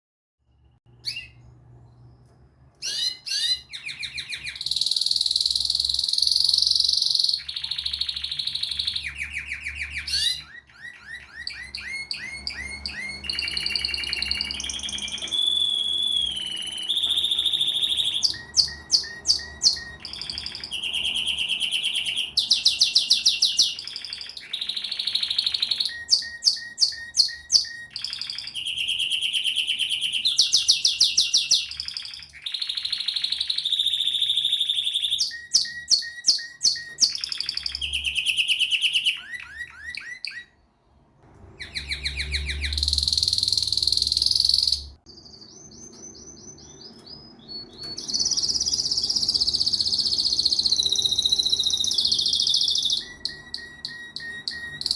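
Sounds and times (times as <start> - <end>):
canary singing trills: 0.5 - 40.7, 41.4 - 54.9.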